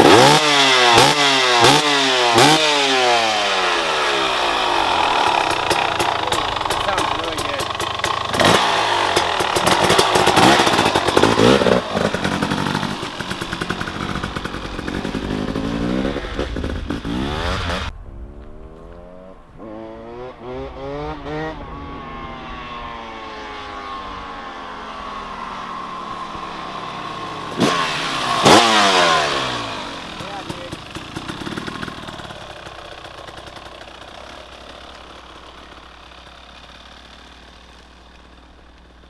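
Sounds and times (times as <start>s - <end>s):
dirt bike engine revving: 0.0s - 18.0s, 18.6s - 39.0s.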